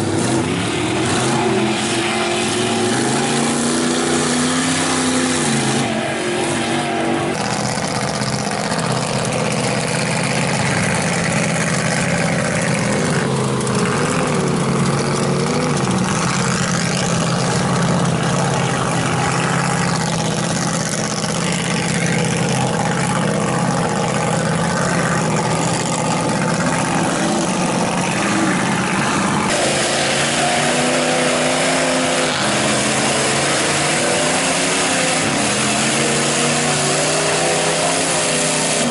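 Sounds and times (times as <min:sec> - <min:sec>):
truck engines revving hard: 0:00.0 - 0:38.9.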